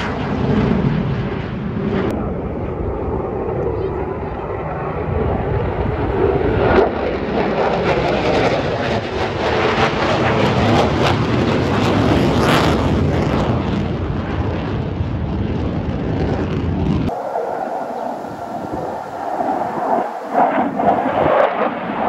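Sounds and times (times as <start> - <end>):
jet fighter roar: 0.0 - 22.0.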